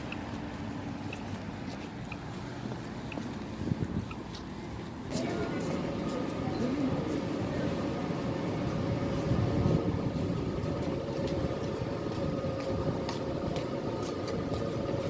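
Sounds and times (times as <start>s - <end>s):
constant mechanical hum: 0.0s - 15.0s
urban background rumble: 0.0s - 15.0s.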